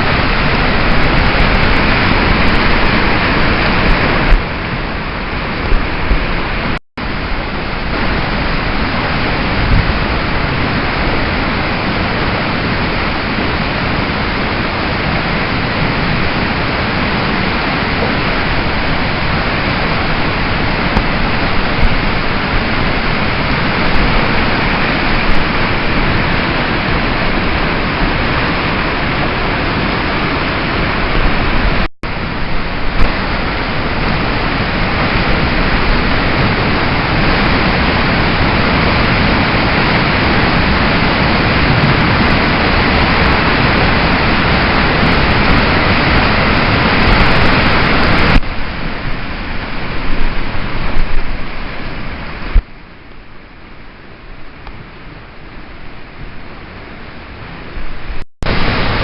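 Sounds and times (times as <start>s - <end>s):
fast-flowing river water: 0.0s - 59.0s.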